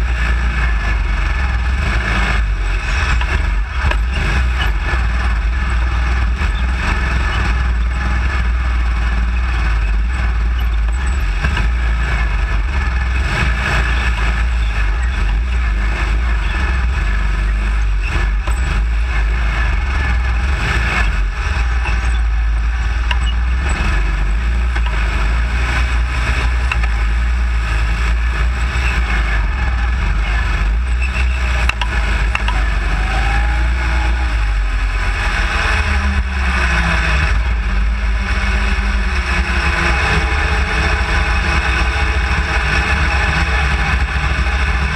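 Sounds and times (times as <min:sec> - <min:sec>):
buggy engine running: 0:00.0 - 0:44.9
chassis rattle: 0:00.0 - 0:44.9.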